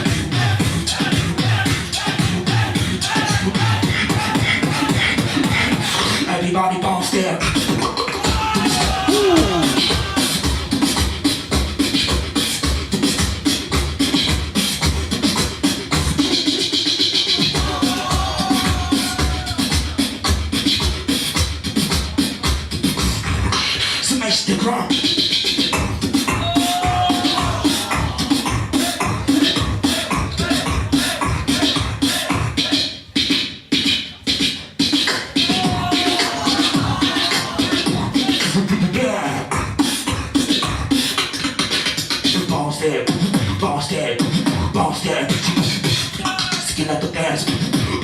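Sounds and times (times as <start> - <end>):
beatboxed snare and hi-hat: 0.0 - 48.0
beatboxing kick drums: 0.0 - 48.0.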